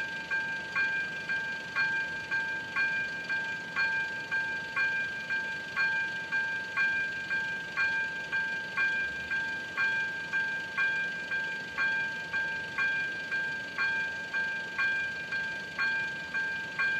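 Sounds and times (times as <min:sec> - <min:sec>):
level crossing warning bell: 0:00.0 - 0:16.9.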